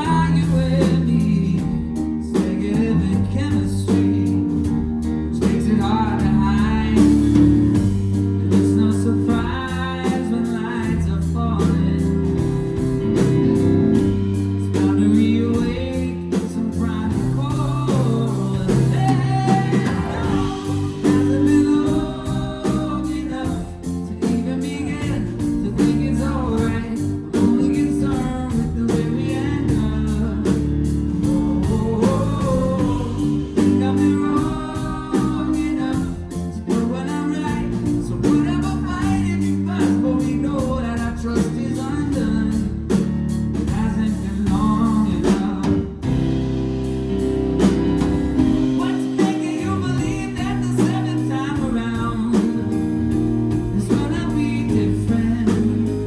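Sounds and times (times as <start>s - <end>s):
live pop-rock band: 0.0s - 56.0s
person singing lead vocals: 0.0s - 56.0s
steady drum beat: 0.0s - 56.0s.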